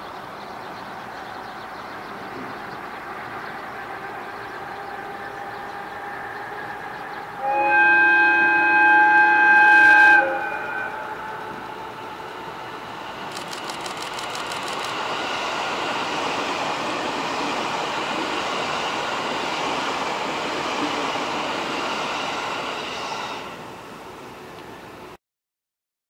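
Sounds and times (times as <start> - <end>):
electric train passing at speed: 0.0 - 25.2.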